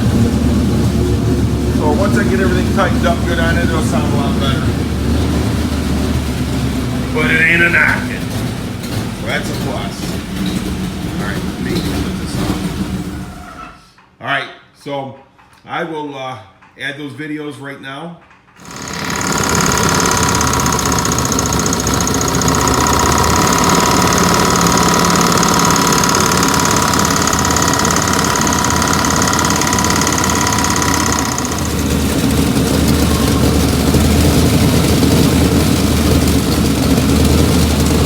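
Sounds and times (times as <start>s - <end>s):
engine knocking: 0.0s - 13.5s, 18.6s - 38.0s
car engine idling: 0.0s - 13.6s, 18.6s - 38.0s.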